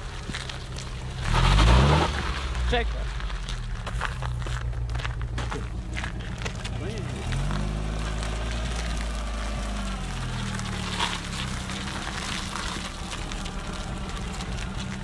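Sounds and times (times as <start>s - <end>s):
car engine drone: 0.0s - 15.0s
tyre and wind noise: 0.0s - 15.0s.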